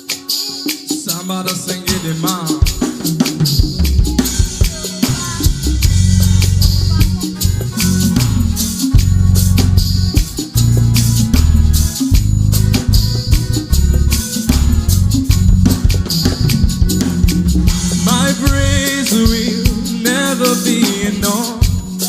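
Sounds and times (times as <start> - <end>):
rattling shaker: 0.0 - 22.0
steady drum beat: 0.0 - 22.0
heavy bass notes: 1.9 - 22.0.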